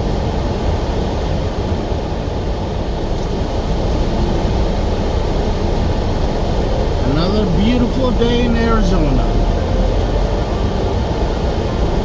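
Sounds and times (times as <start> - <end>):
truck engine drone in cab: 0.0 - 12.0.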